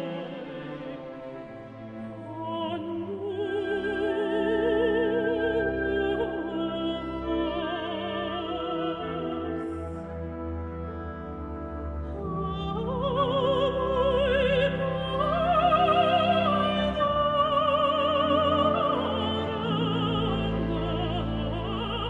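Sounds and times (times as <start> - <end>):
orchestral accompaniment: 0.0 - 22.0
woman singing operatically: 2.2 - 10.2, 12.1 - 22.0.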